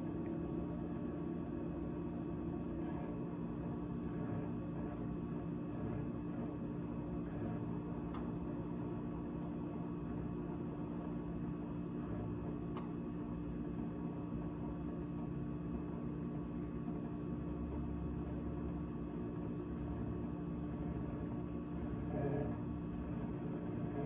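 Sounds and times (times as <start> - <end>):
refrigerator humming: 0.0 - 24.0.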